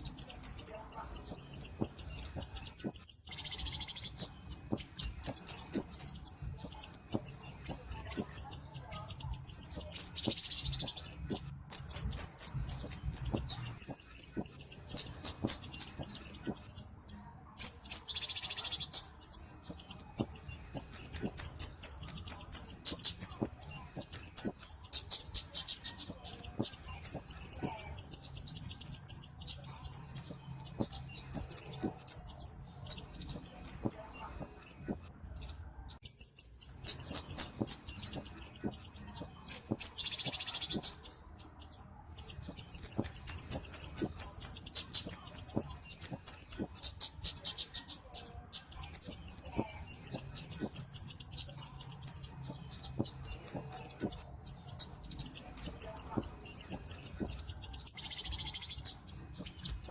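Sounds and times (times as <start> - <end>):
bird chirping rapidly: 0.0 - 59.9.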